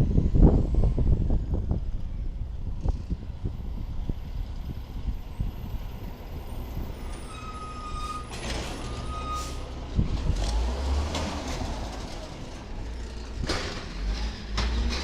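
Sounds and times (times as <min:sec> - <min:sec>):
garbage truck engine rumbling: 0:00.0 - 0:15.0.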